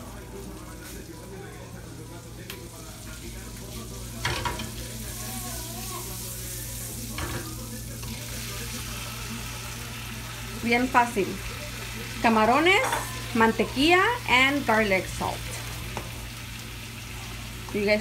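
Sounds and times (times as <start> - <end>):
butter sizzling in a frying pan: 0.0 - 18.0.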